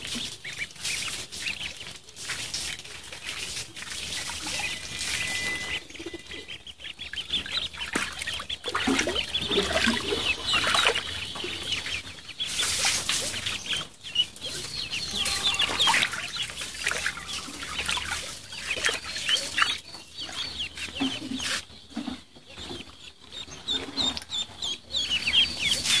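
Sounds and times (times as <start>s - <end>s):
ducklings peeping: 0.0s - 26.0s.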